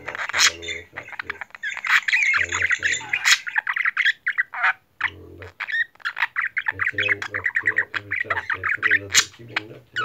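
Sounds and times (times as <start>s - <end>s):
budgerigar chattering: 0.0s - 10.0s.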